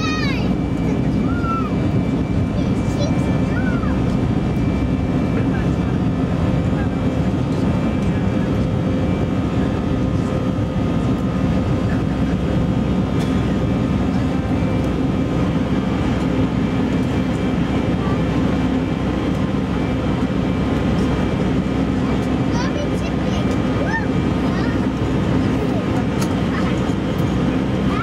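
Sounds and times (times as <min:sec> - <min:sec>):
airliner cabin engine and airflow noise: 0:00.0 - 0:28.0.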